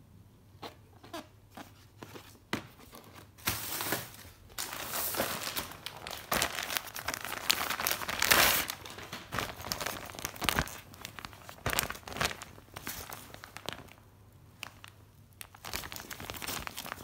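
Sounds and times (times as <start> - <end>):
packaging crinkling: 2.9 - 17.0.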